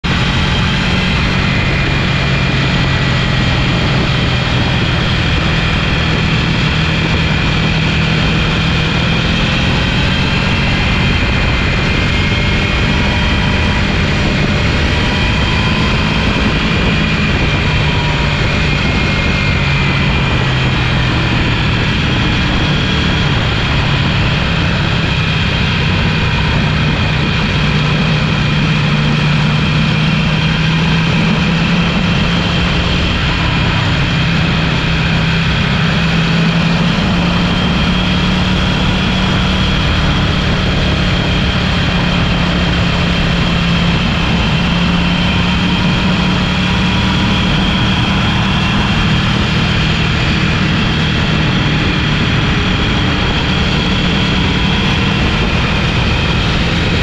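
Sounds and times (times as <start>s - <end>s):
motorcycle engine at speed: 0.0s - 57.0s
wind rushing on camera: 0.0s - 57.0s.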